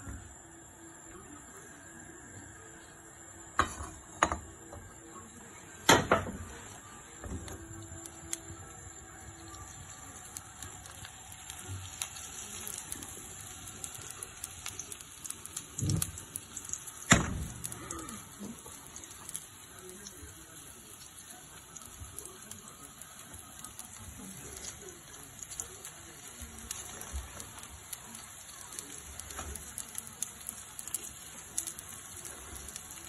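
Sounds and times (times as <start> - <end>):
batter sizzling in a frying pan: 1.1 - 33.0.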